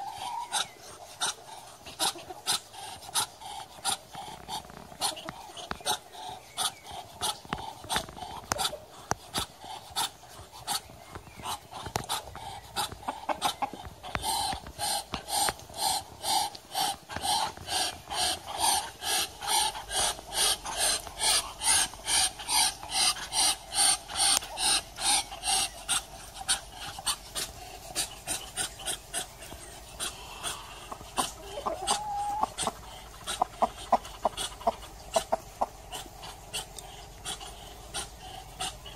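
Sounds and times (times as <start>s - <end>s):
ducks hissing huffs: 0.0s - 38.9s.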